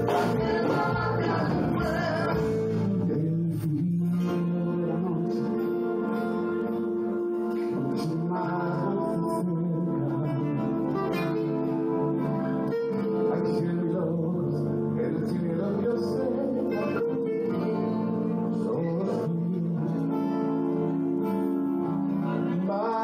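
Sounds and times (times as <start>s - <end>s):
acoustic guitar chords: 0.0s - 23.0s
live band music: 0.0s - 23.0s.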